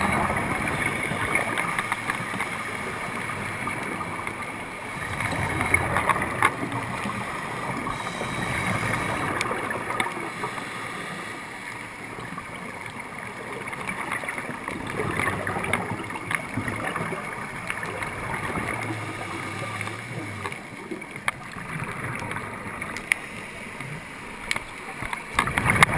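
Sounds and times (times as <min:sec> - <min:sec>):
muffled underwater rush: 0:00.0 - 0:25.9.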